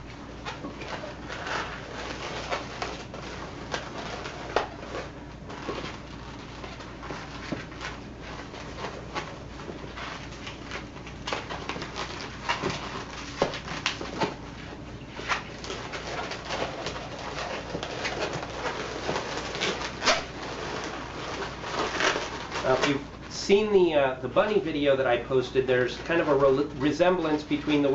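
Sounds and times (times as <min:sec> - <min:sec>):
balloons squeaking and rubbing: 0:00.0 - 0:24.8.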